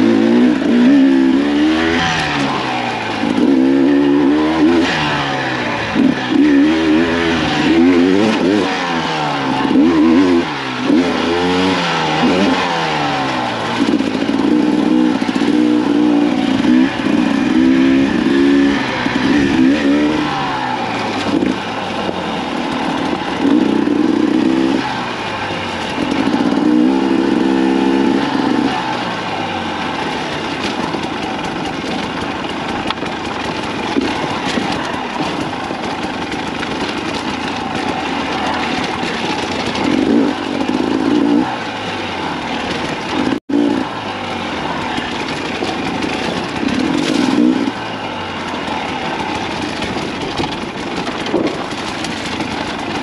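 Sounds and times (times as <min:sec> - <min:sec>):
two-stroke engine revving: 0:00.0 - 0:53.0.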